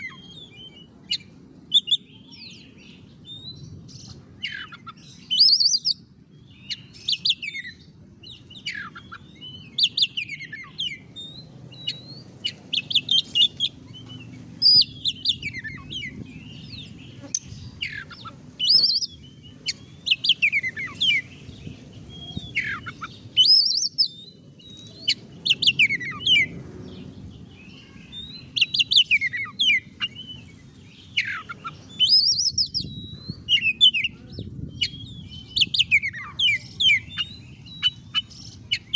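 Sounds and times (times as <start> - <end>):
bird singing whistles and chatter: 0.0 - 6.0, 6.6 - 38.9.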